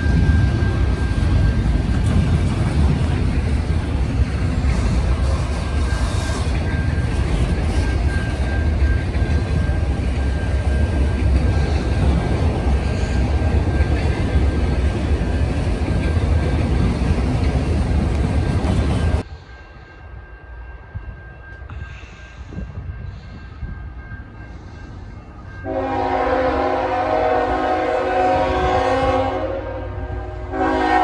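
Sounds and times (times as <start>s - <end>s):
freight train wheels rumbling on rail: 0.0s - 31.0s.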